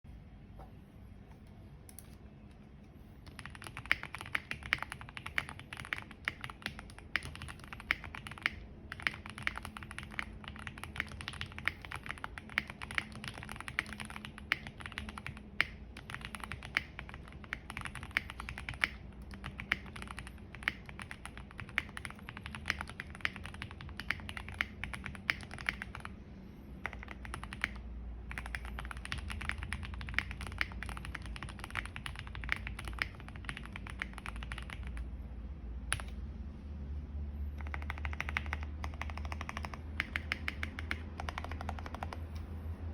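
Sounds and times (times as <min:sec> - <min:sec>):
mechanical keyboard typing: 0:03.2 - 0:26.2, 0:26.8 - 0:35.1, 0:35.9 - 0:36.2, 0:37.6 - 0:42.5.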